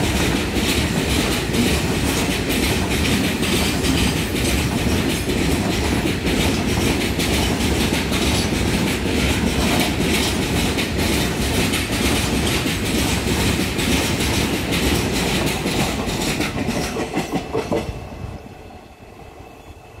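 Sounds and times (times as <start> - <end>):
train wheels clacking over rail joints: 0.0 - 18.0
freight train rumble: 0.0 - 20.0.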